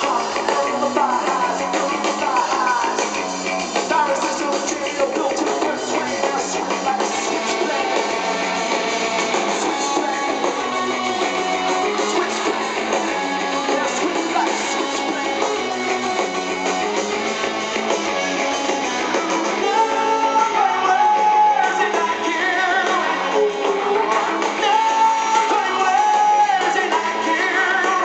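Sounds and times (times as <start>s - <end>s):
electric guitar: 0.0s - 28.0s
rock band playing live: 0.0s - 28.0s.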